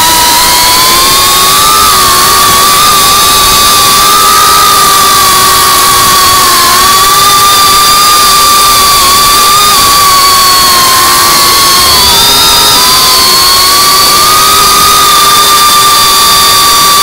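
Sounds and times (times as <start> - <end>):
drone motors whining: 0.0 - 17.0
rush of noise: 0.0 - 17.0.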